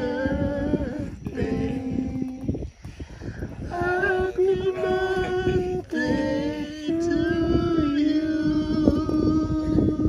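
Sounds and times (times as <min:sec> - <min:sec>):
voices singing long notes: 0:00.0 - 0:10.0.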